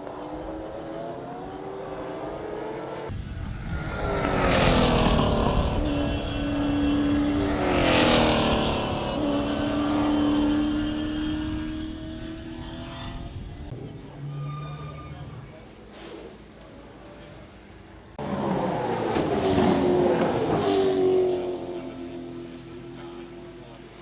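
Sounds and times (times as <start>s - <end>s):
race cars passing by: 0.0s - 24.0s.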